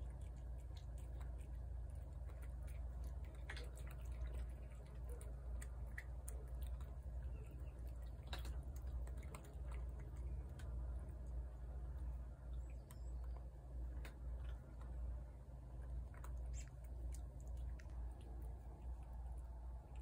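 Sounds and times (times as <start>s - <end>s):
cat chewing and licking food: 0.0s - 20.0s
low background rumble: 0.0s - 20.0s.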